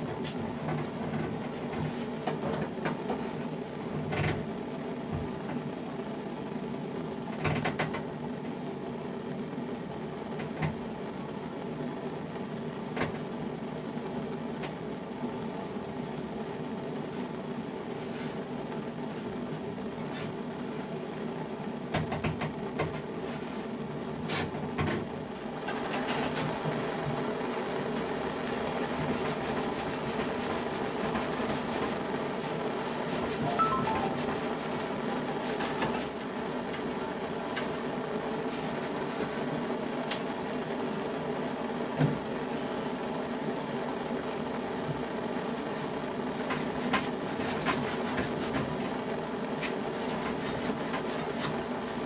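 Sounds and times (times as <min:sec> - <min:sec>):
steady multi-tone hum: 0:00.0 - 0:52.0.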